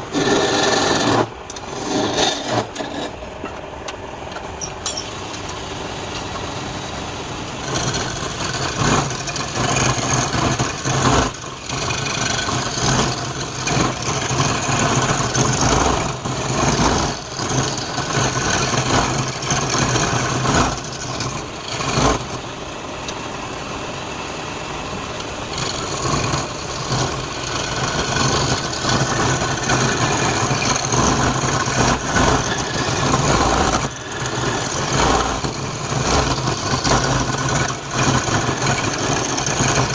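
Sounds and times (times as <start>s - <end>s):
tool scraping spinning wood: 0.0s - 6.5s, 7.6s - 22.4s, 25.0s - 39.9s
lathe motor hum: 0.0s - 39.9s.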